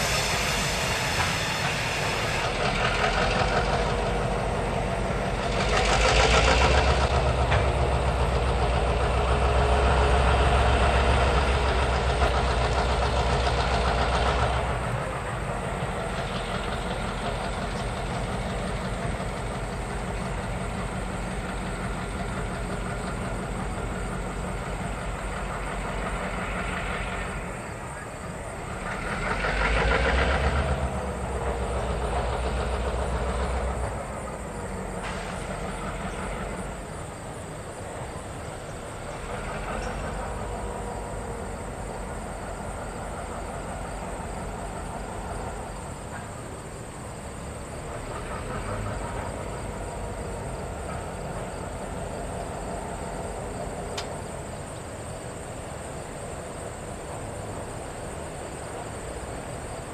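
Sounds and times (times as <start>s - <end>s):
diesel locomotive rumbling: 0.0s - 59.9s.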